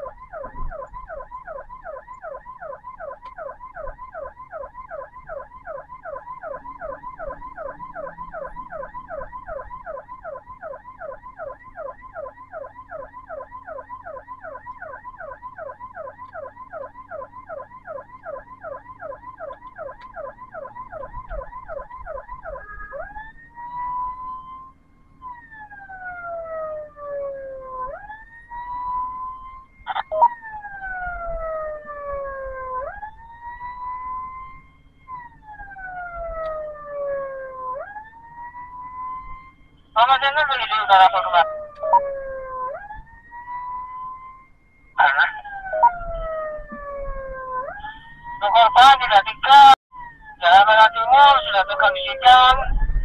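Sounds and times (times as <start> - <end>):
low vehicle rumble: 0.0 - 40.0, 41.0 - 50.3, 52.6 - 53.0
ambulance siren: 0.0 - 53.0.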